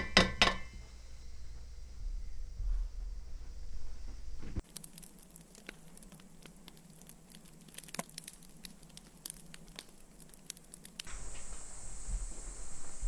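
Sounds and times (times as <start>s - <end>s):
faint steady hum: 0.0s - 13.0s
wood fire crackling: 0.0s - 13.0s.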